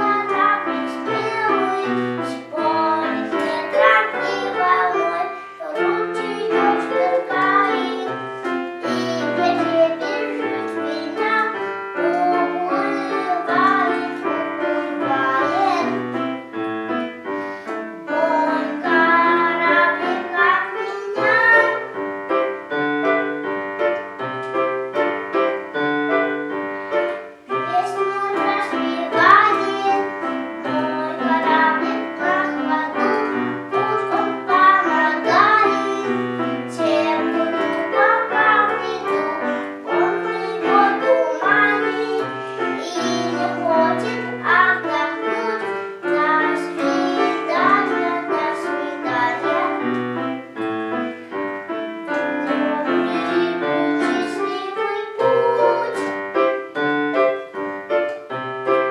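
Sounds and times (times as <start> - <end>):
child singing: 0.0 - 23.4, 25.8 - 50.4, 52.0 - 56.7
piano: 0.0 - 58.9.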